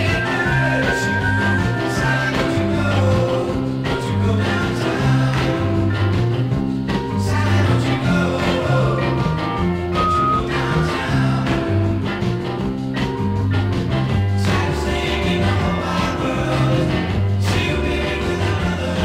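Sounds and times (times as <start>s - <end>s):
bass line: 0.0s - 19.0s
pop-rock band music: 0.0s - 19.0s.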